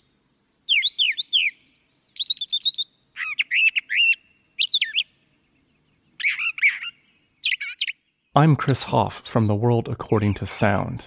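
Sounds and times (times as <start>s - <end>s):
bird singing varied phrases: 0.0s - 11.0s.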